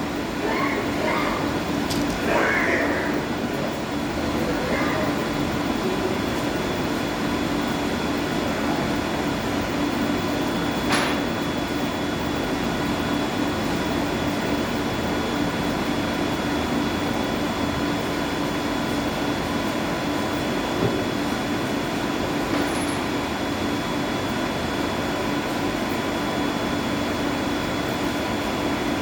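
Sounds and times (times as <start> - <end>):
machinery pumps and fans droning: 0.0 - 29.0.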